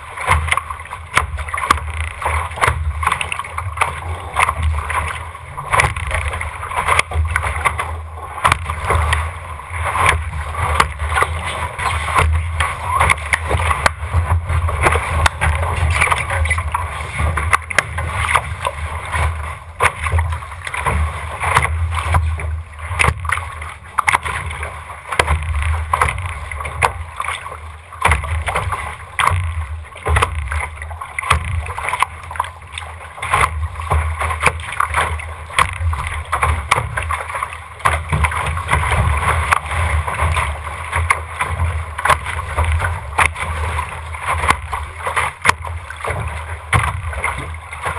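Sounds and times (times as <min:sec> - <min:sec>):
water rushing against hull: 0:00.0 - 0:47.9.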